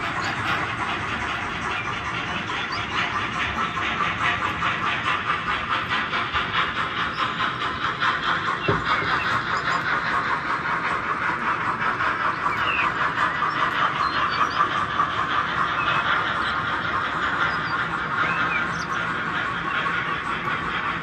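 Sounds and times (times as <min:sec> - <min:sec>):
model steam locomotive chuffing: 0:00.0 - 0:21.0.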